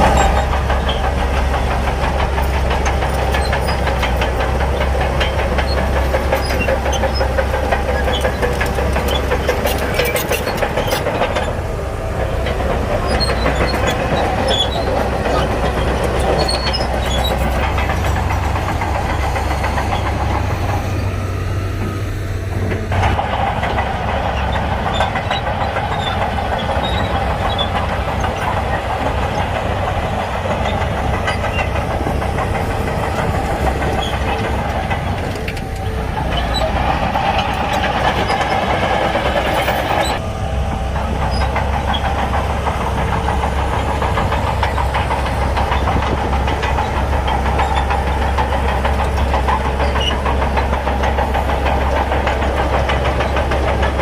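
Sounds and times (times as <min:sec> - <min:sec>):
bulldozer diesel engine: 0:00.0 - 0:54.0
bulldozer tracks clattering: 0:00.0 - 0:54.0.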